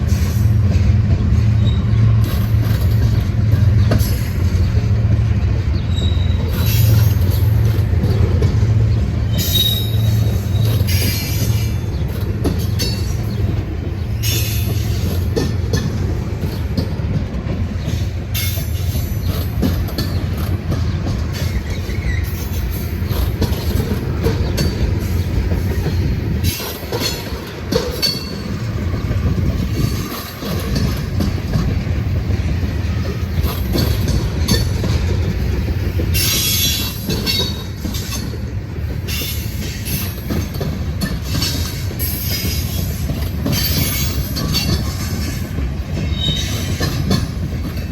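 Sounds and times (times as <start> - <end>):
train wheels squealing: 0.0 - 5.0, 5.7 - 17.0, 17.6 - 31.7, 36.0 - 47.9
freight train cars rumbling: 0.0 - 47.9.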